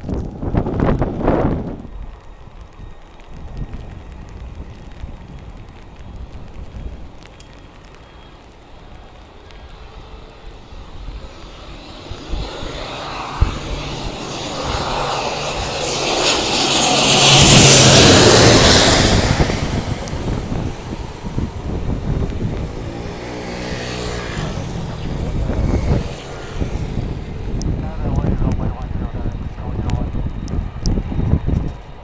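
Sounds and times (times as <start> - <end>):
turboprop airliner passing: 0.0 - 32.0.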